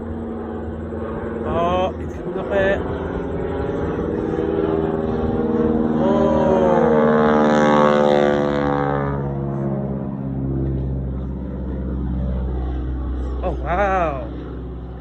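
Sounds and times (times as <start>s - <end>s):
airplane engine drone overhead: 0.0s - 15.0s.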